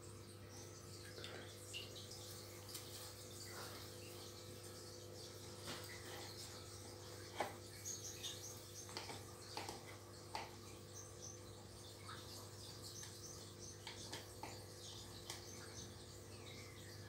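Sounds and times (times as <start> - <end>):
aquarium pumps humming: 0.0 - 17.0.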